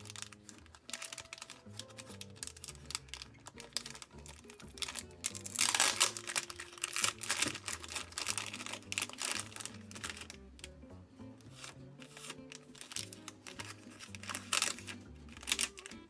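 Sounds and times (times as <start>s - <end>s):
packaging crinkling: 0.0s - 10.7s, 11.5s - 16.0s
quiet background music: 0.0s - 16.0s.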